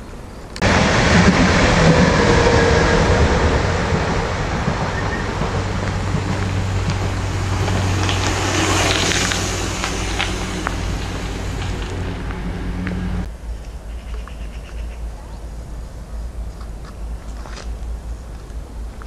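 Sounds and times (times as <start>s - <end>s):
train rumbling and rattling: 0.5s - 19.0s.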